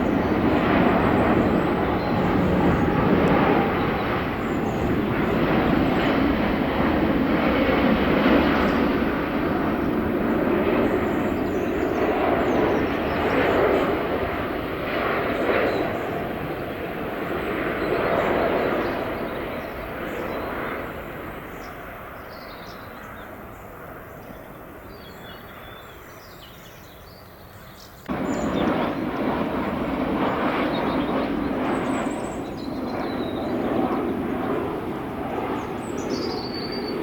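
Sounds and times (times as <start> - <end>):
airliner passing overhead: 0.0 - 37.0.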